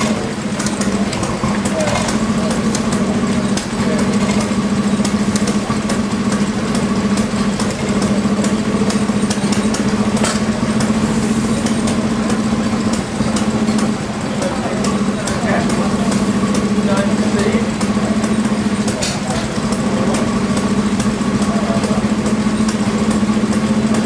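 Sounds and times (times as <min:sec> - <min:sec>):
stationary engine running: 0:00.0 - 0:24.0.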